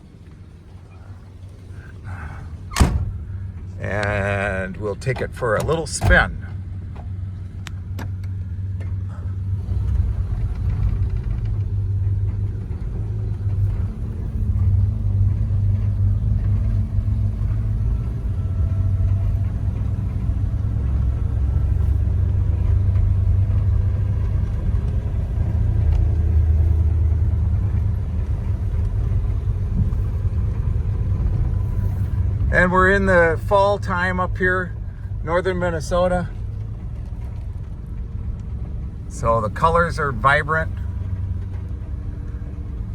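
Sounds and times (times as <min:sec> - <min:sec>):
car engine low rumble: 0:00.0 - 0:42.9.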